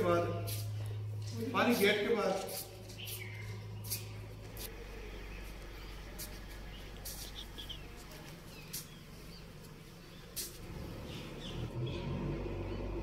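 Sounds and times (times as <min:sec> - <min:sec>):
birds chirping: 0:00.0 - 0:13.0
low background hum: 0:00.0 - 0:13.0.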